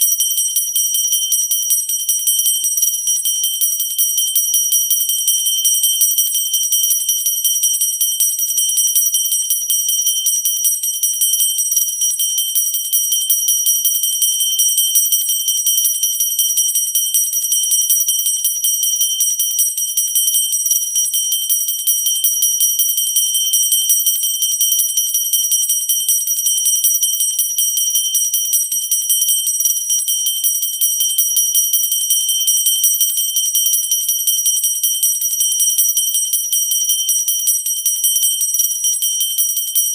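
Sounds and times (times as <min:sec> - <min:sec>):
bell ringing continuously: 0:00.0 - 0:39.9.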